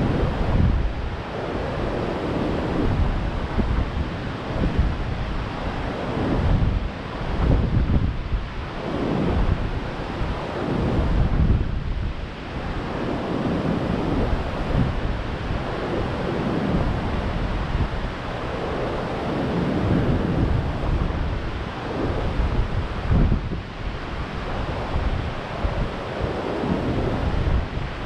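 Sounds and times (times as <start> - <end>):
surf breaking on beach: 0.0 - 28.0
wind buffeting microphone: 0.0 - 28.0.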